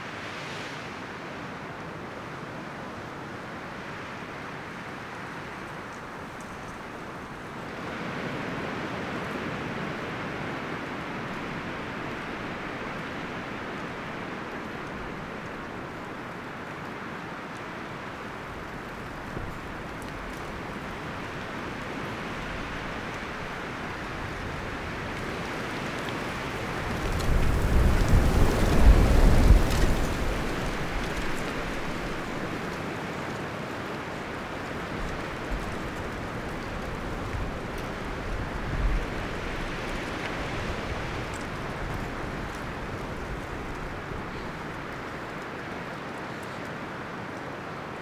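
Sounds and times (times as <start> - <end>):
wind rustling leaves and branches: 0.0 - 48.0.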